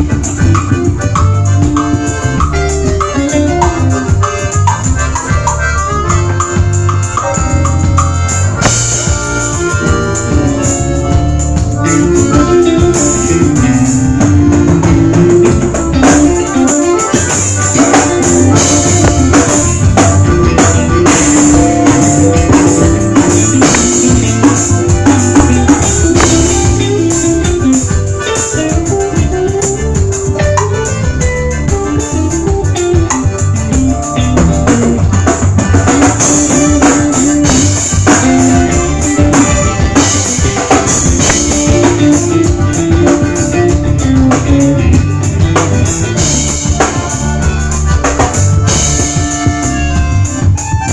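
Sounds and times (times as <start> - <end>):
drum kit beat: 0.0 - 50.9
instrumental melody line: 0.0 - 50.9.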